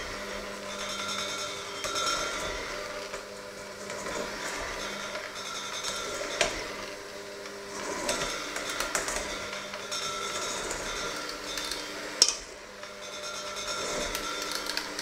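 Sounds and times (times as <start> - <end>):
electric hand mixer running: 0.0 - 15.0
beaters clattering against metal bowl: 0.4 - 15.0.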